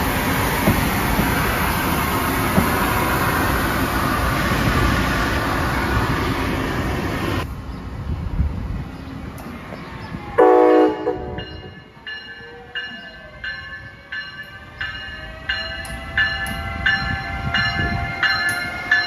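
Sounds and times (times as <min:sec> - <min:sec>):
distant train approaching: 0:00.0 - 0:19.0
train wheels rumbling on rails: 0:00.0 - 0:19.0.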